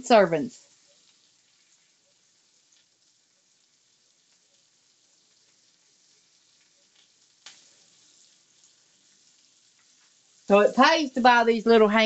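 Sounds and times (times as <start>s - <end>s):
ham sizzling in a skillet: 0.0s - 12.0s.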